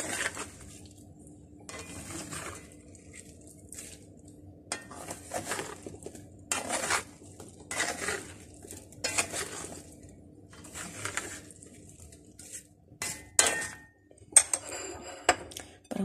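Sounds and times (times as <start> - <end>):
spatula scraping and squelching in pan: 0.0 - 1.0, 1.7 - 15.5.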